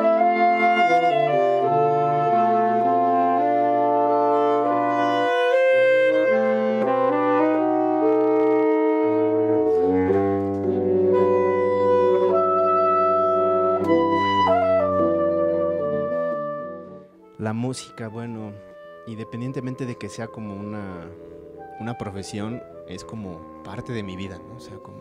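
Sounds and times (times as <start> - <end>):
saxophone quartet playing chords: 0.0 - 25.0.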